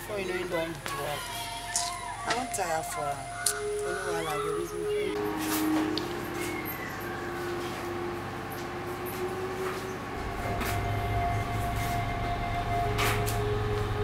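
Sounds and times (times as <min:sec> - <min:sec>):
held synth notes: 0:00.0 - 0:14.0
low rumbling drone: 0:01.6 - 0:14.0.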